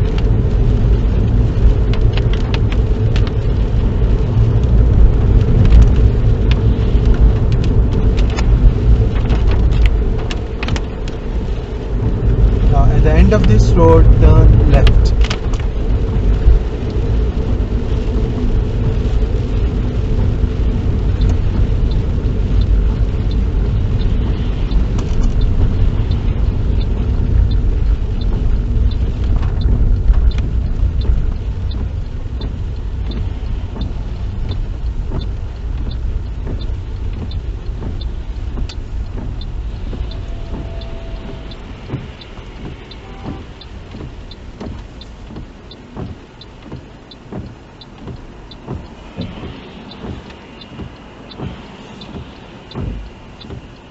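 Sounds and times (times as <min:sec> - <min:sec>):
car tyre and engine rumble: 0:00.0 - 0:53.9
turn indicator ticking: 0:00.0 - 0:53.9.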